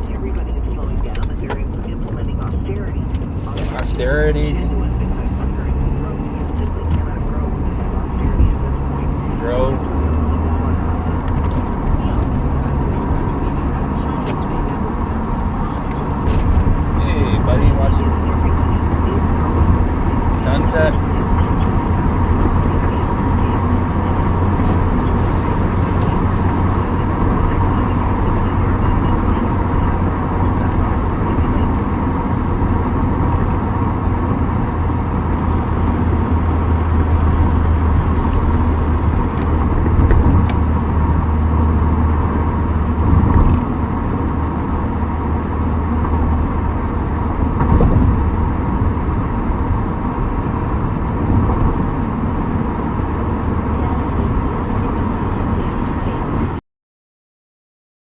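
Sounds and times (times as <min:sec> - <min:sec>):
car engine rumble: 0:00.0 - 0:56.6
road noise: 0:00.0 - 0:56.6.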